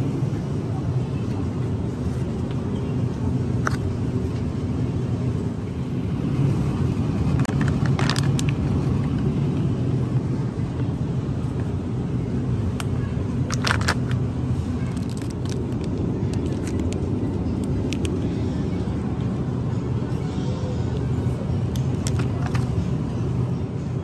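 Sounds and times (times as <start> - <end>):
supermarket background rumble: 0.0 - 24.0.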